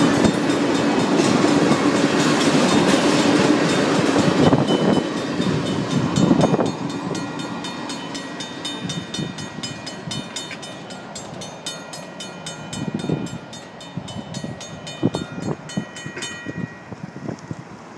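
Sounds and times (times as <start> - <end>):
crossing warning bells ringing: 0.0 - 17.9
freight train rumbling: 0.0 - 17.9.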